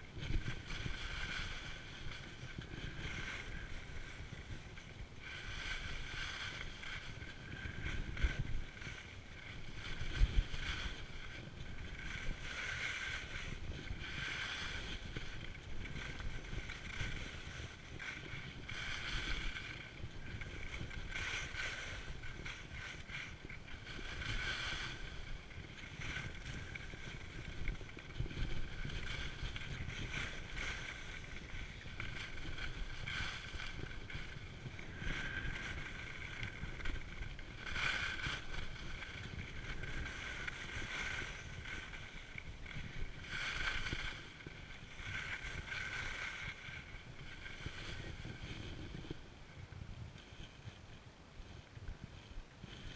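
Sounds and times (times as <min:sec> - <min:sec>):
skis scraping over snow: 0:00.0 - 0:52.9
wind rumble on microphone: 0:00.0 - 0:52.9.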